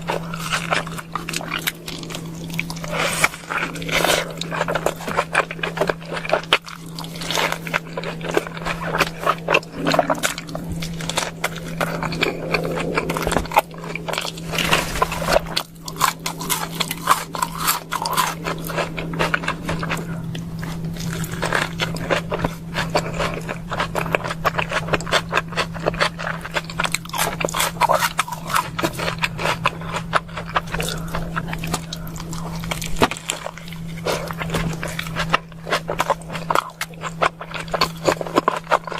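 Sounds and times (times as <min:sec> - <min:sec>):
crunchy chewing: 0:00.0 - 0:38.9
low hum: 0:00.0 - 0:38.9.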